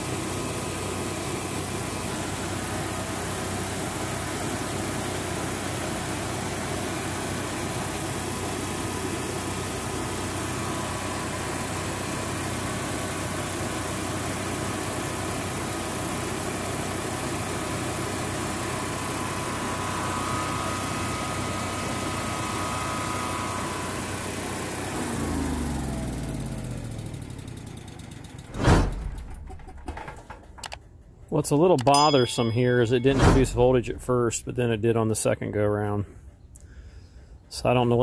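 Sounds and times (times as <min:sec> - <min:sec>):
generator engine running: 0:00.0 - 0:31.9.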